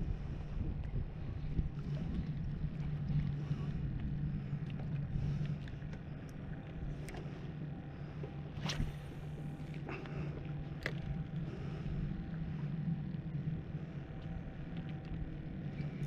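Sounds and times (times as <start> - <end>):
steady low hum: 0.0 - 16.0
wind: 0.0 - 16.0.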